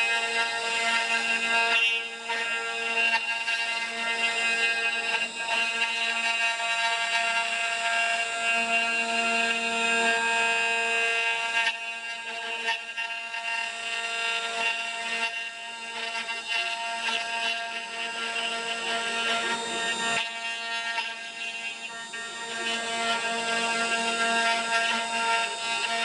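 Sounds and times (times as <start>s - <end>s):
rough wood cutting noise: 0.0s - 26.0s
router spindle whining: 0.0s - 26.0s.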